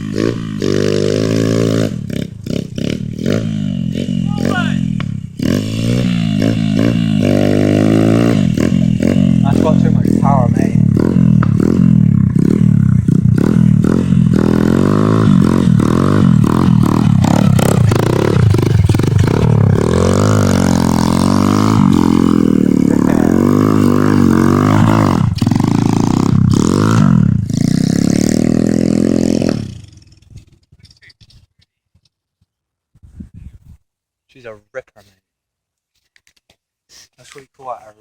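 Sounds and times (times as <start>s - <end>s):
motorcycle engine revving: 0.0s - 30.8s.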